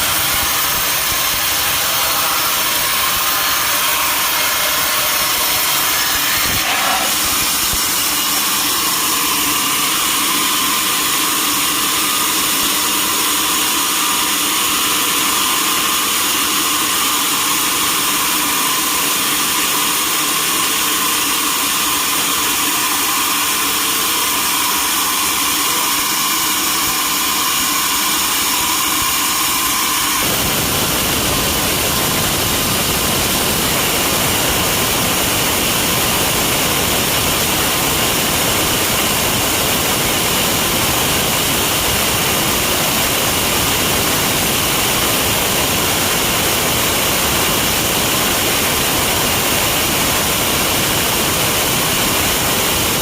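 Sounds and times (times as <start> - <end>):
sawmill saw whining: 0.0 - 53.0.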